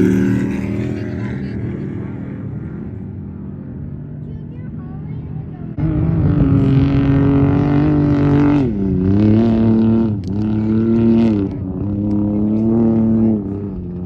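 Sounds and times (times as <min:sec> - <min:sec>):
race vehicle engine revving: 0:00.0 - 0:14.0.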